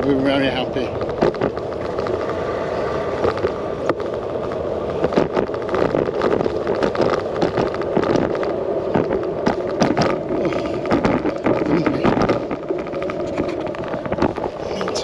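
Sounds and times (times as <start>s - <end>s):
bike rattling over bumps: 0.0s - 15.0s
wind and tyre noise: 0.0s - 15.0s.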